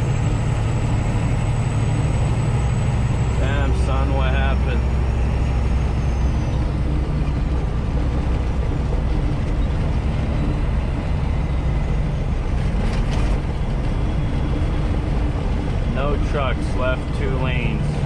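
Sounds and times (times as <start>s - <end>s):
road noise inside cab: 0.0s - 18.0s
truck diesel engine: 0.0s - 18.0s.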